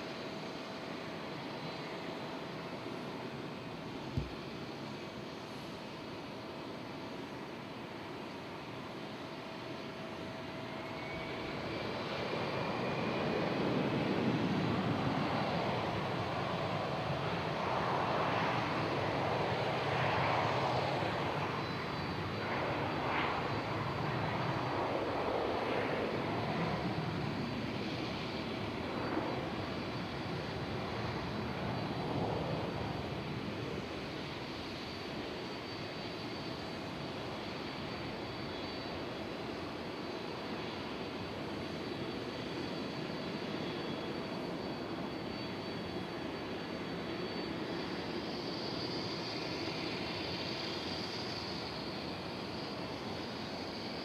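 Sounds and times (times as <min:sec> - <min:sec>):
jet airliner engines rushing: 0:00.0 - 0:54.0.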